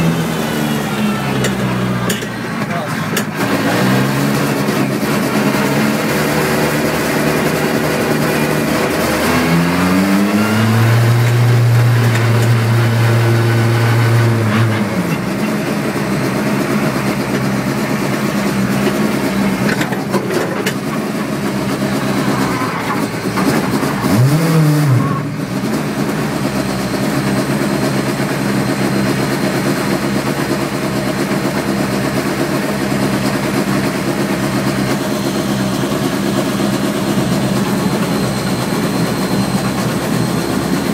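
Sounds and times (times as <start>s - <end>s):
car engine from inside cabin: 0.0s - 40.9s.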